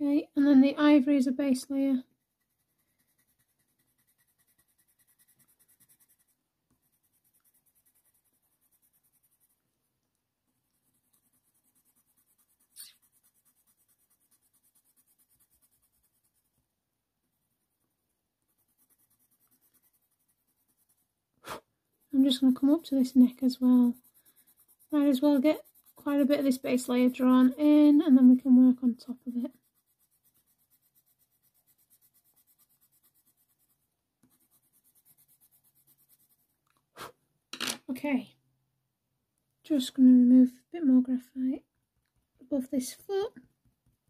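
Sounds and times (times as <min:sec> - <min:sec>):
pencil strokes on paper: 0:01.0 - 0:37.2.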